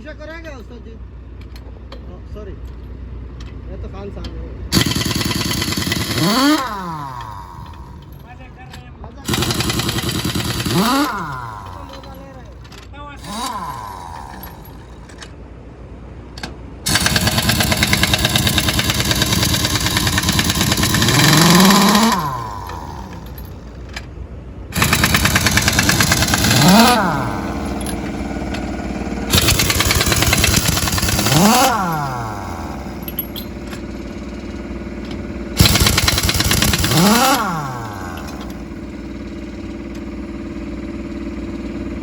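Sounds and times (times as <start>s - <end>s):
impact wrench whine: 4.7s - 8.4s, 9.2s - 15.3s, 16.4s - 24.1s, 24.7s - 42.0s
impact wrench hammering: 4.7s - 15.3s, 16.4s - 24.1s, 24.7s - 40.2s.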